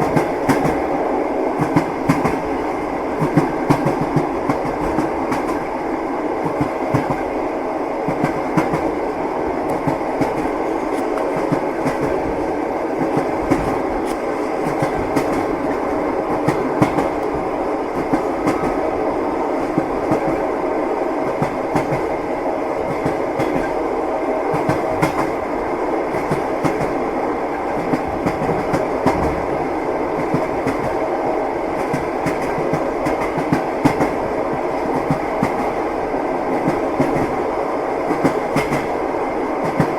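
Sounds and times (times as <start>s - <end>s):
train wheels clattering on rails: 0.0s - 5.8s, 6.4s - 7.4s, 8.0s - 20.5s, 21.2s - 39.9s.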